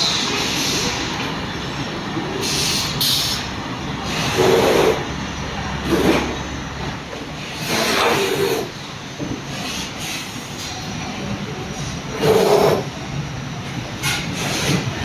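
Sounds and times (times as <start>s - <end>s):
industrial machinery din: 0.0s - 15.0s.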